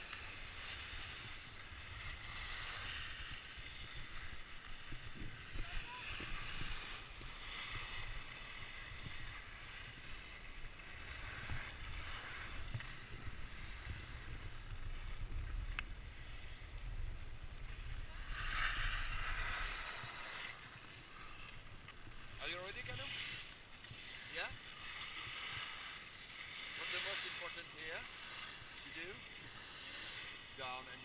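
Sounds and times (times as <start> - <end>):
skis scraping over snow: 0.0 - 31.0
wind rumbling on microphone: 0.0 - 31.0.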